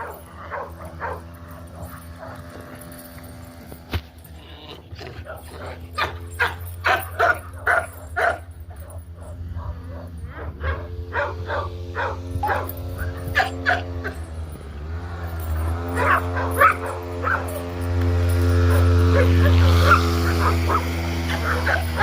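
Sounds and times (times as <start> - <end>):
dogs barking and yipping: 0.0 - 22.0
steady low hum: 0.0 - 22.0.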